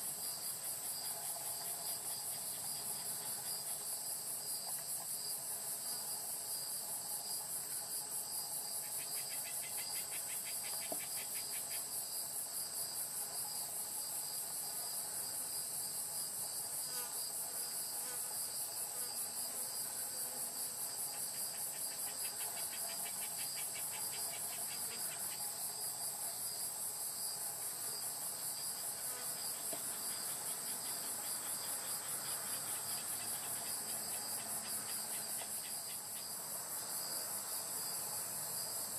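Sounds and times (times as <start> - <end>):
high pulsed insect trill: 0.0 - 15.0, 20.4 - 38.9
lower pulsed insect trill: 0.0 - 38.9.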